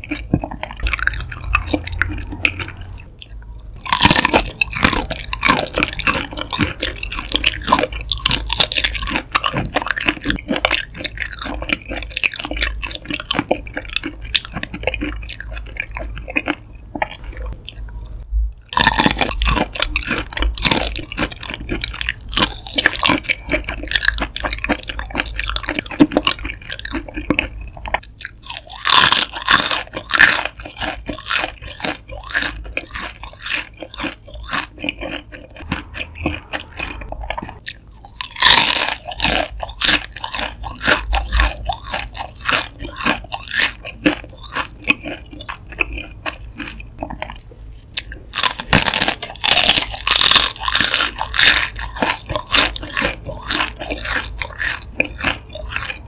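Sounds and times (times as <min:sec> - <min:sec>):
chewing and crunching shrimp: 0:00.0 - 0:56.0.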